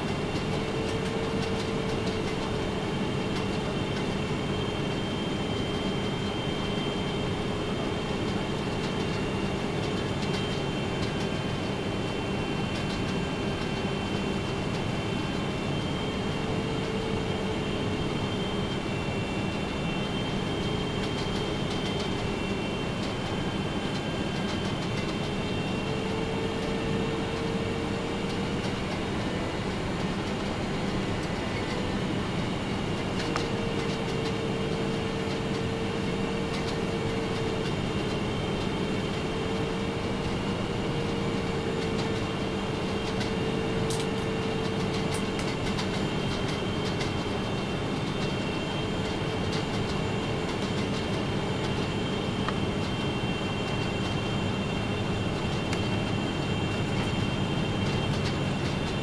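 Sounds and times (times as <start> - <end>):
jet engine drone: 0.0 - 59.0.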